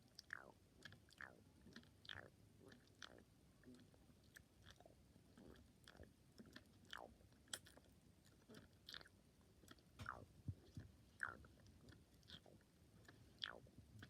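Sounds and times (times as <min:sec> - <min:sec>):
mouth chewing and sucking: 0:00.0 - 0:14.0.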